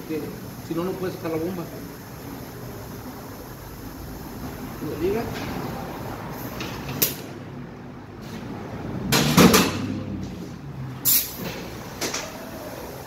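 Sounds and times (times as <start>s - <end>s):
shop hum: 0.0s - 13.0s.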